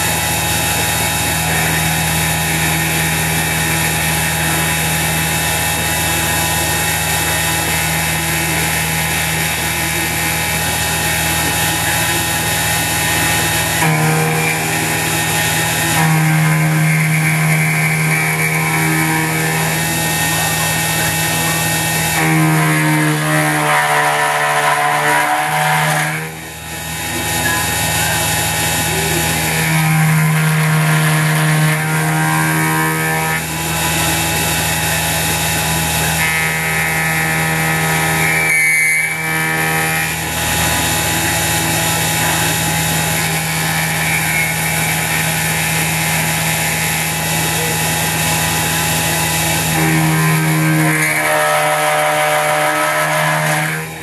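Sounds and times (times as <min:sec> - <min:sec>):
milling machine cutting metal: 0:00.0 - 0:54.0
pitched motor whine: 0:00.0 - 0:54.0.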